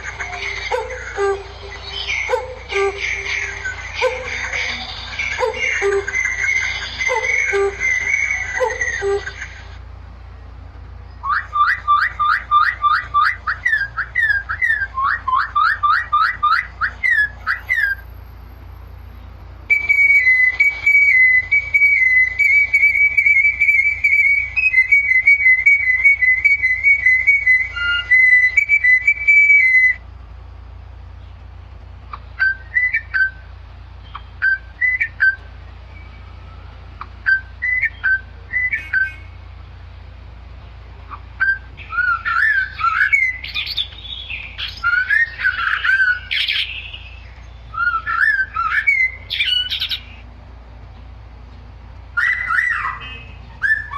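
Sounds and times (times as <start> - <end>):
bird whistling calls: 0.0 - 9.7, 11.1 - 18.1, 19.7 - 30.0, 32.1 - 39.5, 41.1 - 50.3, 52.1 - 53.9.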